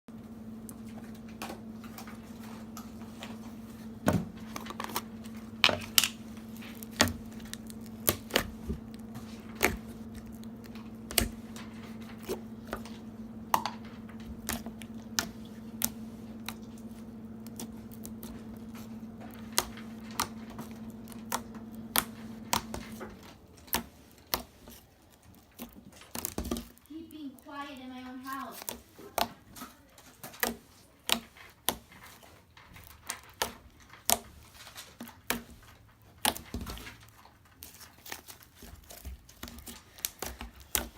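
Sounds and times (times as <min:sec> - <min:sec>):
steady low hum: 0:00.1 - 0:37.8.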